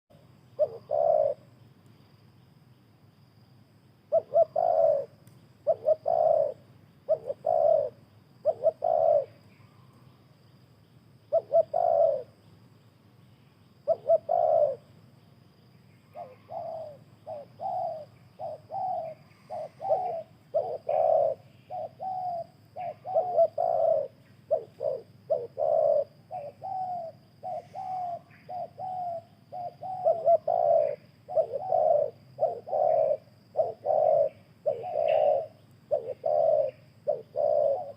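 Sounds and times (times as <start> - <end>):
doves cooing: 0.6 - 1.5, 4.1 - 9.8, 11.3 - 12.4, 13.8 - 14.9, 16.0 - 37.9.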